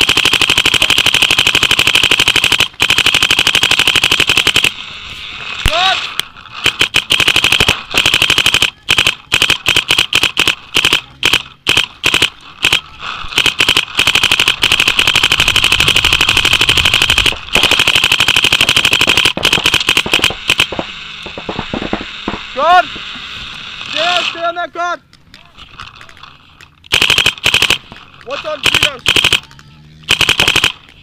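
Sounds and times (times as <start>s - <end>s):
paintball marker firing rapidly: 0.0s - 4.8s, 5.7s - 23.2s, 26.9s - 31.0s.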